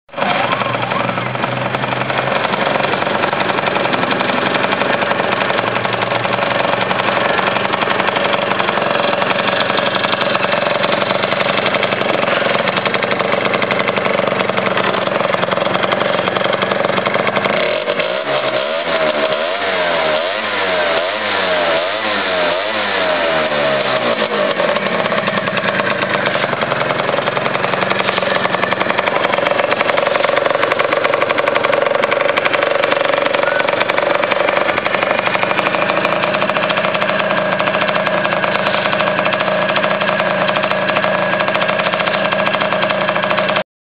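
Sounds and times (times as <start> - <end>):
scooter engine idling: 0.1 - 43.6
scooter engine revving: 0.2 - 43.6.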